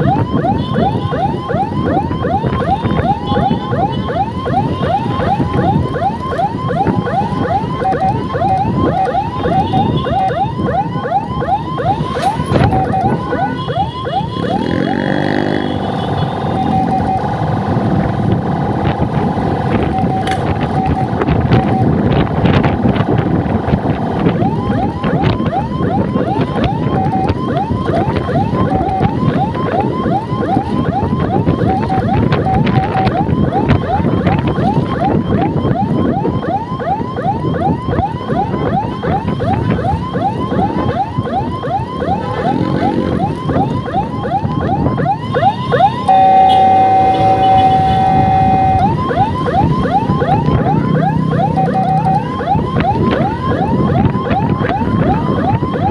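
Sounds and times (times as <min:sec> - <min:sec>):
electronic siren yelping: 0:00.0 - 0:55.9
engine and traffic noise: 0:00.0 - 0:55.9.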